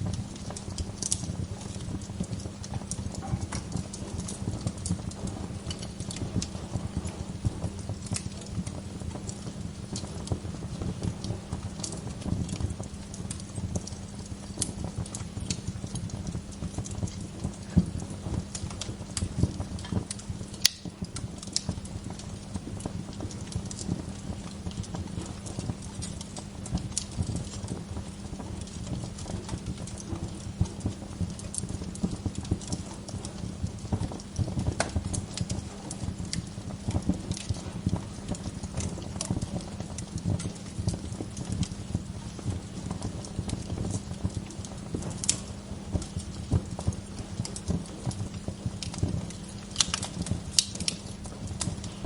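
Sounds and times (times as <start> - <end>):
burning logs popping: 0.0 - 52.0
wood fire crackling: 0.0 - 52.0.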